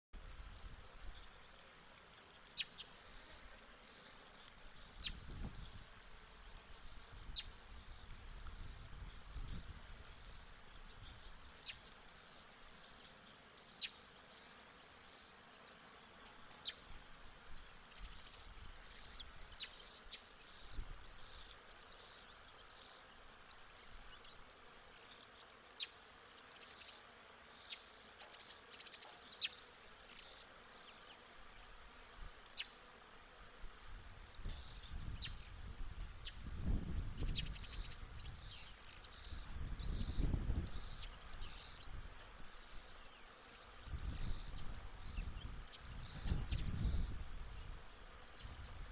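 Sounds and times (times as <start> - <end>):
faint high insect hum: 0.2 - 48.9.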